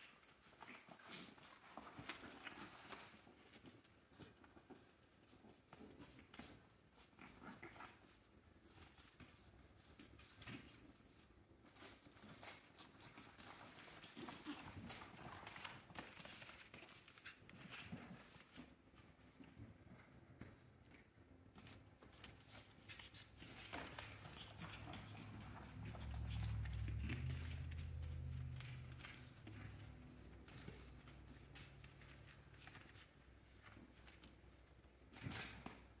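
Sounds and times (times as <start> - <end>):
puppy paws scuffling on floor: 0.0 - 36.0.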